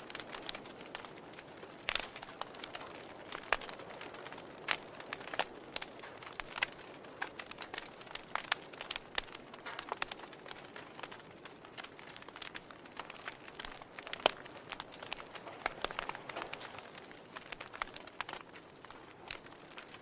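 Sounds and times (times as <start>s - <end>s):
faint steady hiss: 0.0s - 20.0s
wood fire crackling: 0.0s - 20.0s.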